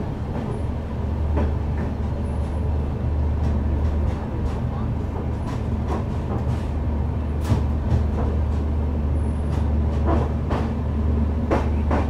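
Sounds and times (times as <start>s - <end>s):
train knocks and clunks: 0.0s - 12.0s
train rumble: 0.0s - 12.0s.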